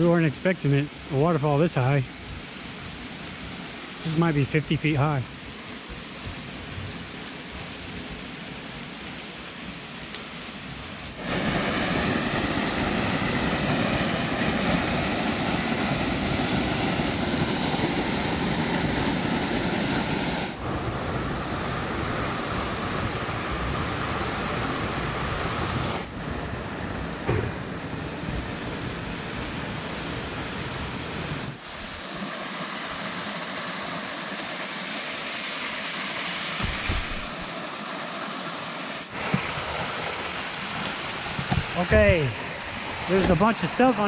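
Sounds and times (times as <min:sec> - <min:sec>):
waterfall splashing: 0:00.0 - 0:44.0.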